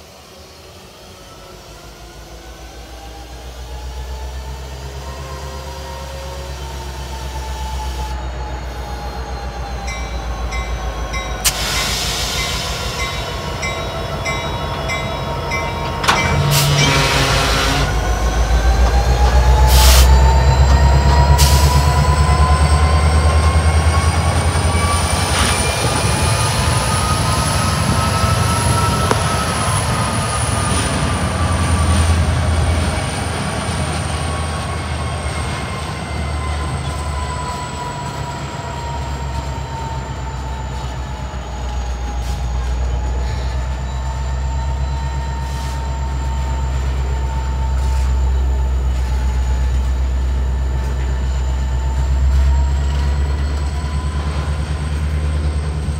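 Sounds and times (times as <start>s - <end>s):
diesel train rumble: 0.0s - 55.9s.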